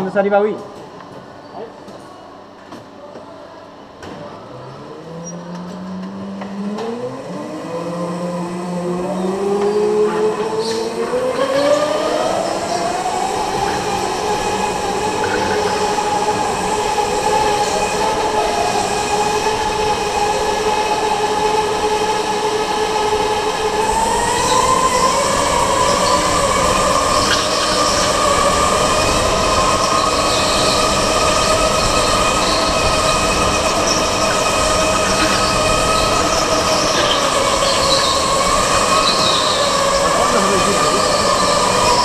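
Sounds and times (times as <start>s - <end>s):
electric kart motors whining: 4.5s - 42.0s.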